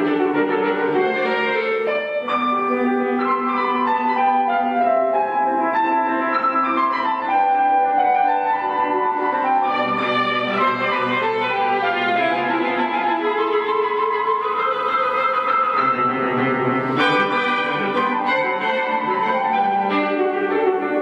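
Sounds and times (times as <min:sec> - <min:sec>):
classical violin and piano music: 0:00.0 - 0:21.0.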